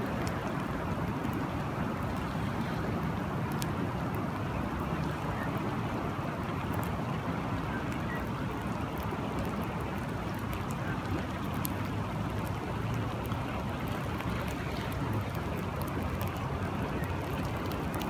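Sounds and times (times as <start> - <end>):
flowing water: 0.0 - 18.0
steady rain: 0.0 - 18.0.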